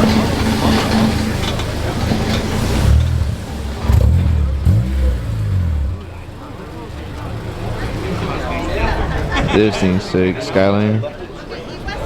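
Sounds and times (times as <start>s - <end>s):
car engine running rough: 0.0s - 10.0s.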